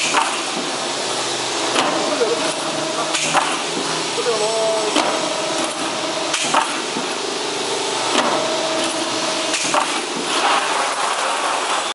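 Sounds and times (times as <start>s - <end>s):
shearing machine running: 0.0s - 11.8s
machine whine: 0.0s - 11.9s.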